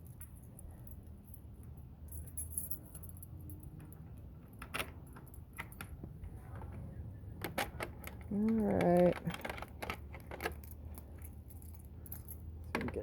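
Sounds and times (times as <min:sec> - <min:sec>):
light metallic jingling: 0:00.0 - 0:07.0, 0:07.6 - 0:13.0
low steady rumble: 0:00.0 - 0:13.0.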